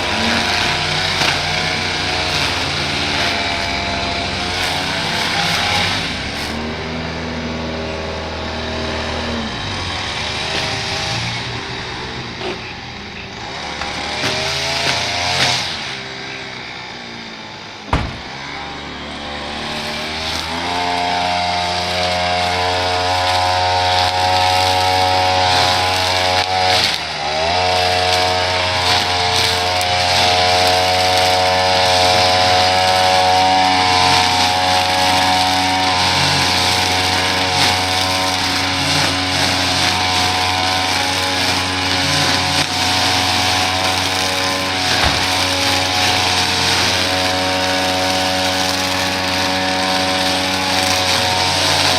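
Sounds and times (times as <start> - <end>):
small gas engine running: 0.0 - 51.9.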